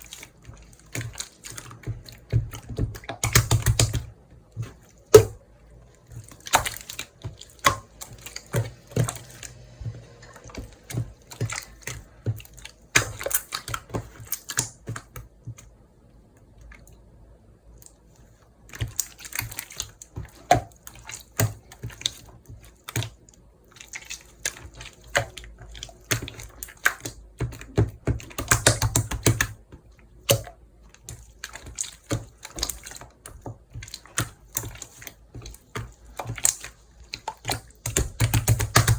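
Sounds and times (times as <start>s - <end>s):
slime squished by hand: 0.0s - 15.7s, 17.7s - 38.9s.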